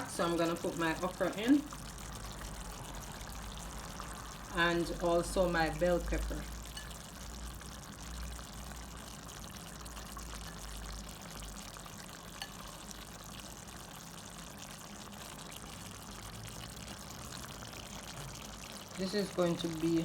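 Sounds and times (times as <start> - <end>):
pot simmering and bubbling: 0.0 - 20.0.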